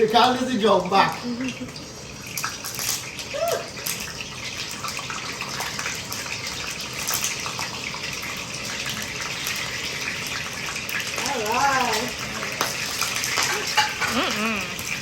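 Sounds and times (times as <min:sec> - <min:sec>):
eggs sizzling in hot oil: 0:00.0 - 0:15.0.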